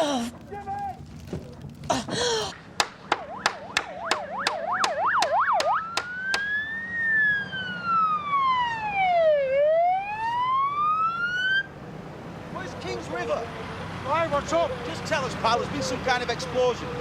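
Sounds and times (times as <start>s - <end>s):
emergency vehicle siren: 3.0s - 17.0s.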